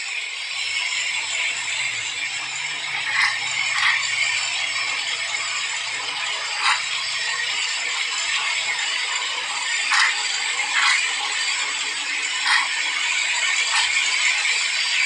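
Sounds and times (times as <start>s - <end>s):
electric blender whirring: 0.7s - 15.0s
blender rattling clatters: 0.8s - 15.0s.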